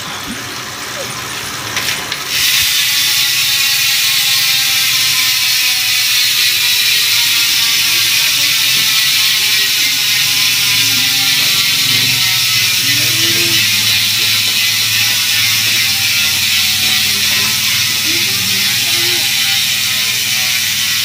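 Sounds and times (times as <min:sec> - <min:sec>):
bicycle freehub ratcheting: 0:01.6 - 0:21.0.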